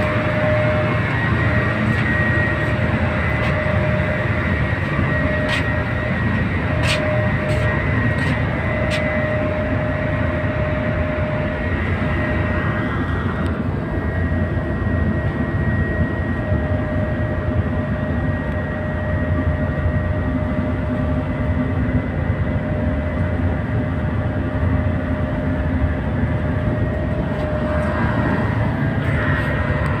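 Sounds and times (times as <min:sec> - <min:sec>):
thin steady whine: 0:00.0 - 0:30.0
tugboat engine drone: 0:00.0 - 0:30.0.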